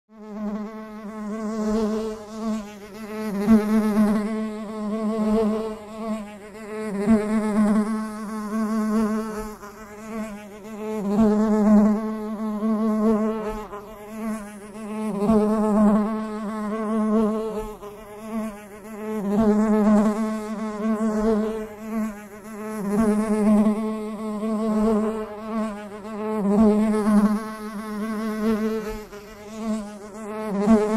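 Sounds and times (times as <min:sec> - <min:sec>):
bee buzzing: 0:00.2 - 0:30.9.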